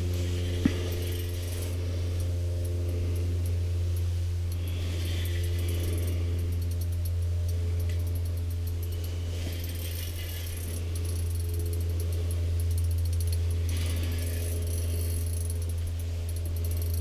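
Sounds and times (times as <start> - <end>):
fishing reel clicking and rattling: 0.0 - 17.0
steady low hum: 0.0 - 17.0.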